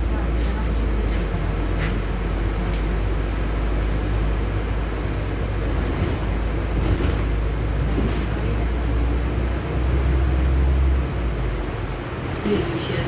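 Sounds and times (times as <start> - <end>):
bus engine hum: 0.0 - 13.0
cabin and road noise: 0.0 - 13.0.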